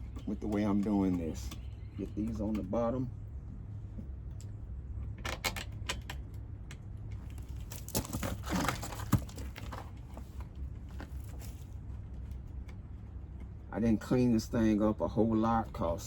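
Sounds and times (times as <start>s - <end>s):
handling engine parts: 0.0s - 13.7s
steady low hum: 0.0s - 16.0s.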